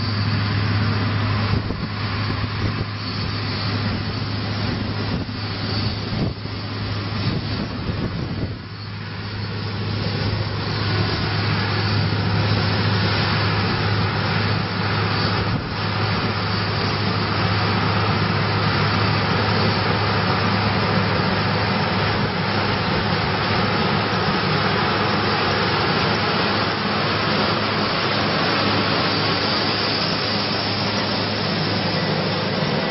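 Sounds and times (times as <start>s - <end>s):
loud rushing noise: 0.0s - 32.9s
low engine drone: 0.0s - 32.9s.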